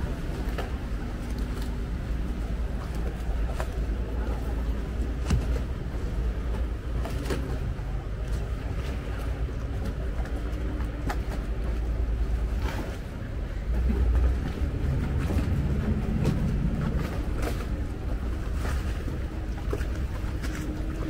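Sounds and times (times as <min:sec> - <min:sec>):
boat engines rumbling: 0:00.0 - 0:21.0
wind: 0:00.0 - 0:21.0.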